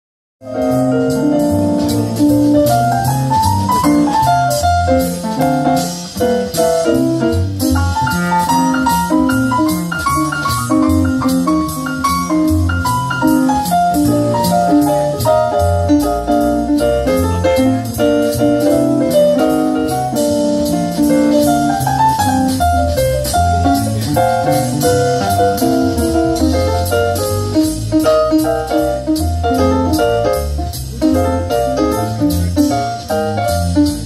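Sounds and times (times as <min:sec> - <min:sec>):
synthesizer playing jazzy blues: 0:00.4 - 0:34.0.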